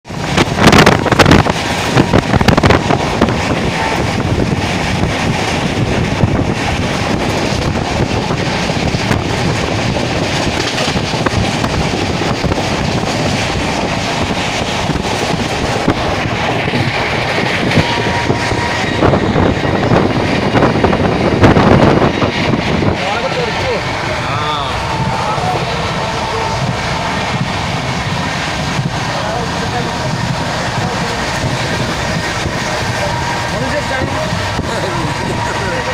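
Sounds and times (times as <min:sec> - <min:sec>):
rushing air: 0:00.0 - 0:35.9
train wheels on rails: 0:00.0 - 0:35.9.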